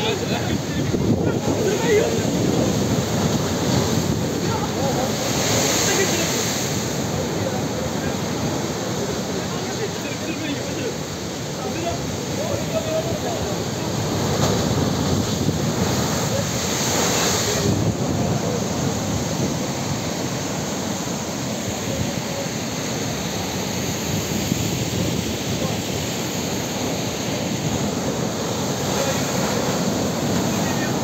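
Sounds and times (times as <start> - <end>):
surf breaking against rocks: 0.0 - 31.0.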